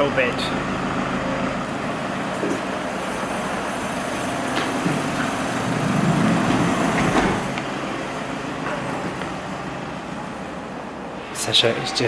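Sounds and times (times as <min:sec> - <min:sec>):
vehicle engine rumble: 0:00.0 - 0:11.4
traffic noise: 0:00.0 - 0:12.0.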